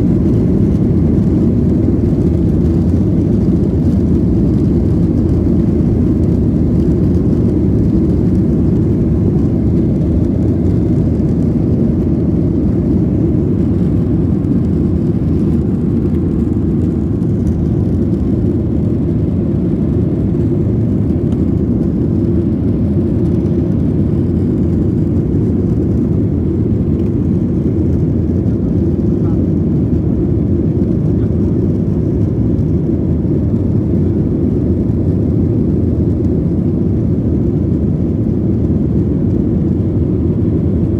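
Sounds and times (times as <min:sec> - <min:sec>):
jet engines deep rumble: 0:00.0 - 0:40.9.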